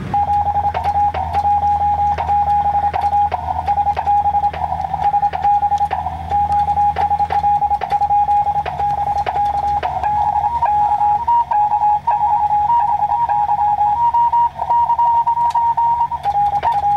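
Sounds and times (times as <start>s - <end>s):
steady low hum: 0.0s - 16.9s
morse code sidetone beeping: 0.1s - 16.9s.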